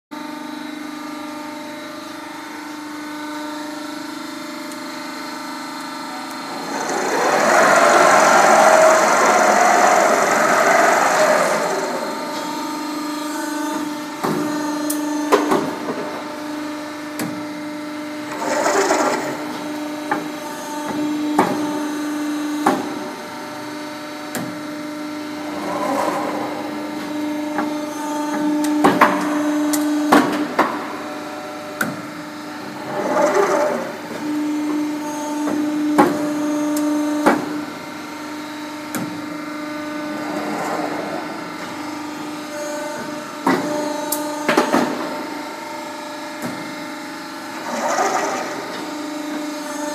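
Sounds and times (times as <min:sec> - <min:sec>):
hydraulic unit humming: 0:00.6 - 0:49.9
loud machine noise: 0:00.6 - 0:49.9.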